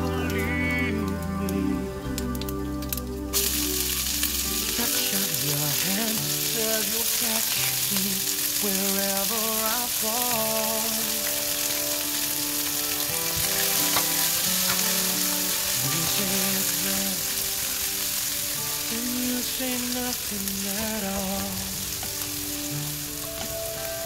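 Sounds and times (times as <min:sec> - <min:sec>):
hot oil sizzling: 0:02.1 - 0:24.0.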